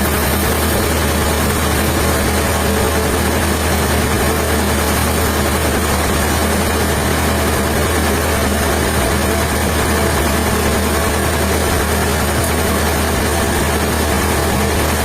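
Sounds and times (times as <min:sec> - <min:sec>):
sawmill machinery running: 0:00.0 - 0:15.0.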